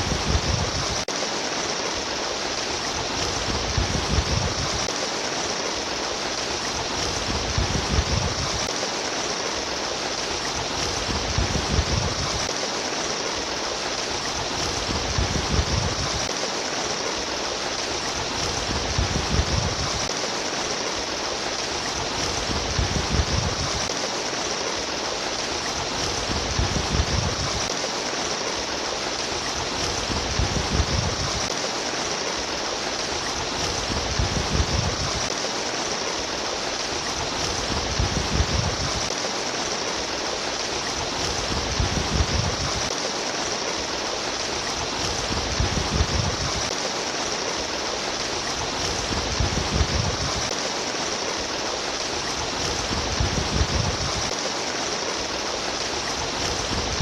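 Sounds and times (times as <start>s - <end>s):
water babbling and splashing: 0.0s - 57.0s.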